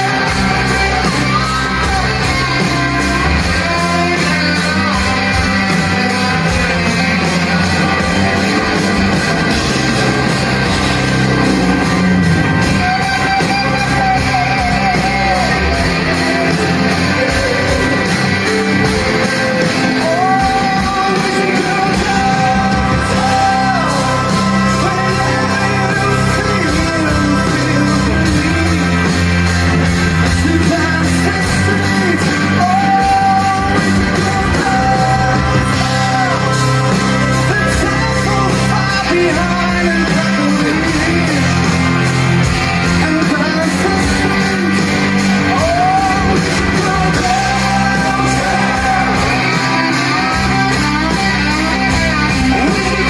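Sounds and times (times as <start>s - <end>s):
person singing long notes: 0.0s - 29.0s, 29.8s - 42.0s, 42.7s - 53.0s
live rock band playing: 0.0s - 53.0s.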